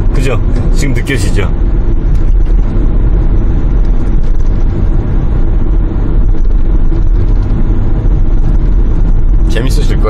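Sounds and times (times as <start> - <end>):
engine and road noise in car: 0.0 - 10.0.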